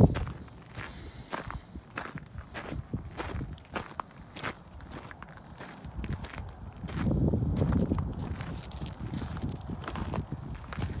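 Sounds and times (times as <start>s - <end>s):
footsteps on dirt and gravel: 0.0s - 11.0s.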